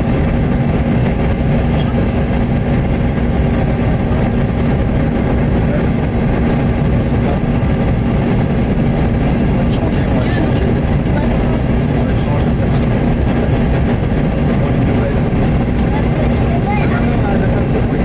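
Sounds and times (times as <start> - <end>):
airflow rushing in cabin: 0.0 - 18.0
jet engines droning: 0.0 - 18.0.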